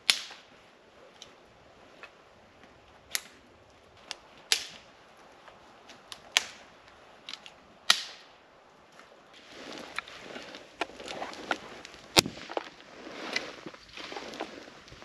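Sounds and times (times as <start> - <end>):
dry twigs snapping: 0.0 - 2.2, 3.1 - 8.3, 8.9 - 15.0.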